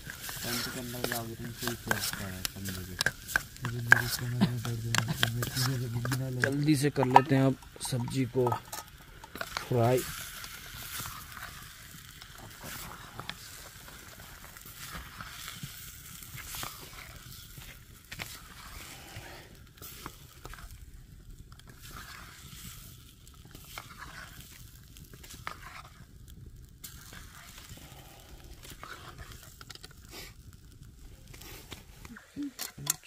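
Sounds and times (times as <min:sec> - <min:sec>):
food sizzling in a pan: 0:00.0 - 0:33.0
spoon stirring in a pan: 0:00.1 - 0:20.9, 0:21.5 - 0:26.1, 0:26.8 - 0:30.2.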